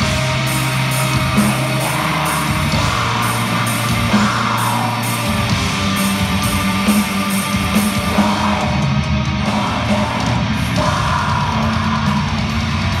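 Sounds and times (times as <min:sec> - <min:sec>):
live metal band playing: 0:00.0 - 0:13.0.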